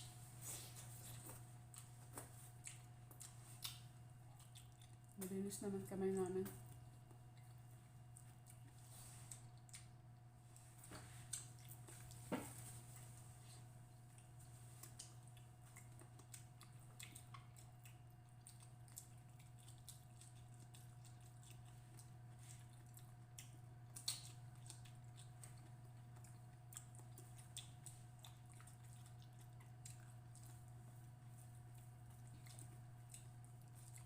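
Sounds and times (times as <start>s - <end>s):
steady low hum: 0.0s - 34.0s
chewing and wet squishing: 0.4s - 34.0s.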